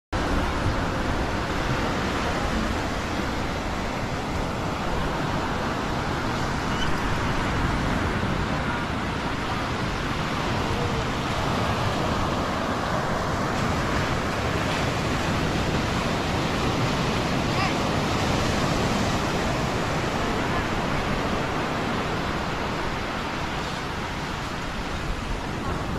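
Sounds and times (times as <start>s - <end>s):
ocean surf breaking: 0.2s - 25.9s.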